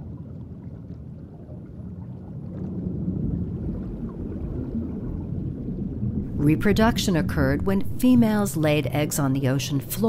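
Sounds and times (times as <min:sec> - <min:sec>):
muffled underwater rumble: 0:00.0 - 0:10.0.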